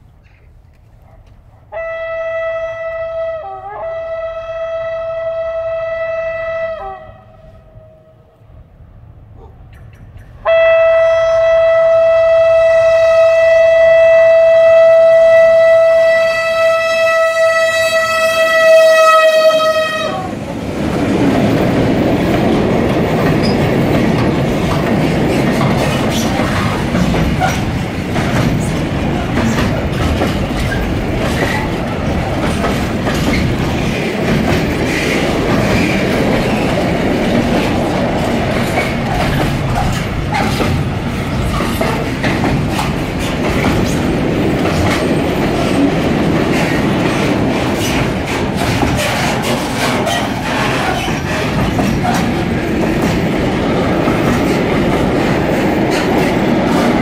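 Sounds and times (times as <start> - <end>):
freight train wheels rumbling: 10.0 - 57.0.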